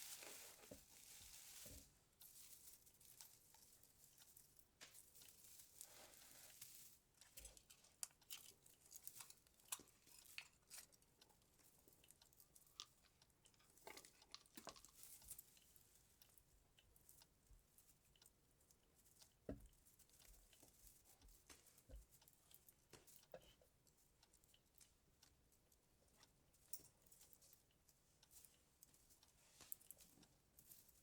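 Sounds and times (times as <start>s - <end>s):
light garland rustling: 0.0s - 31.0s
small clicks of string lights: 0.1s - 31.0s.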